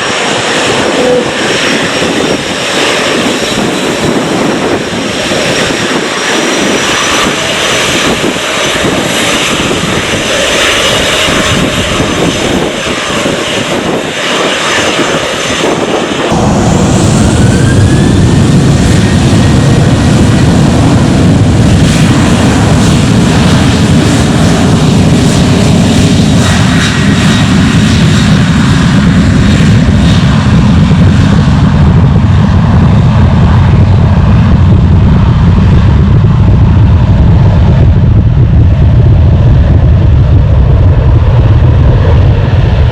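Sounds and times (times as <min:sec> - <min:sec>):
deep jet rumble: 0:00.0 - 0:42.9
jet engine noise with whine: 0:00.0 - 0:42.9.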